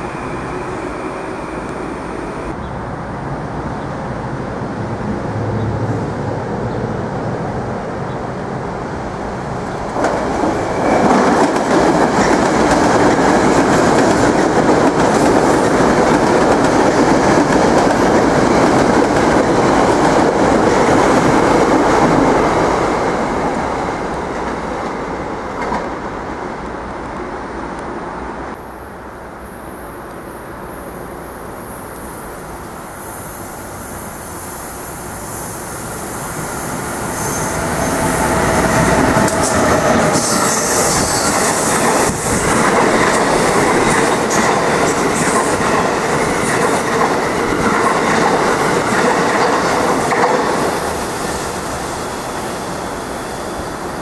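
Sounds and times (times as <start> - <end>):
train wheels rushing on rails: 4.3 - 27.3, 29.4 - 54.0.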